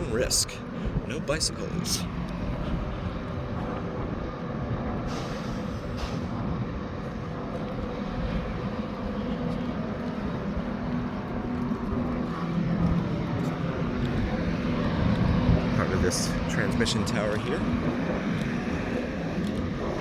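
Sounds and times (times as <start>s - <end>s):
rumble of motor vehicles: 0.0s - 20.0s.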